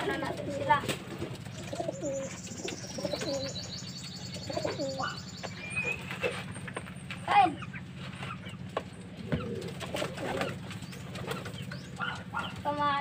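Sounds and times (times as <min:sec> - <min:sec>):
pigeons cooing: 0:00.0 - 0:06.9, 0:07.6 - 0:13.0.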